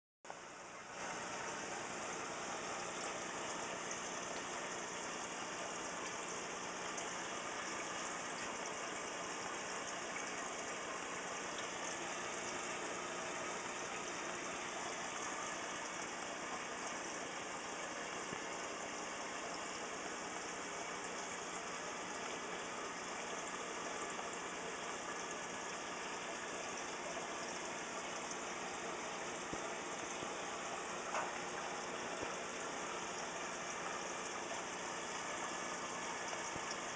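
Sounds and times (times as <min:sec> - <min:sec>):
aquarium equipment hiss and hum: 0:00.3 - 0:36.9.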